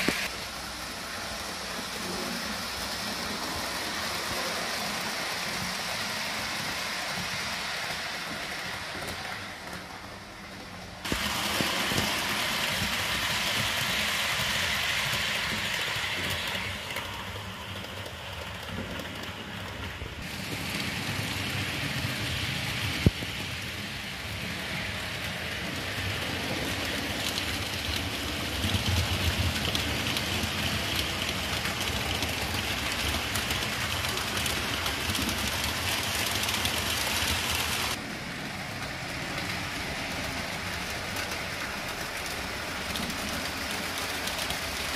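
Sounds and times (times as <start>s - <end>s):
model train rolling: 0.0s - 44.9s.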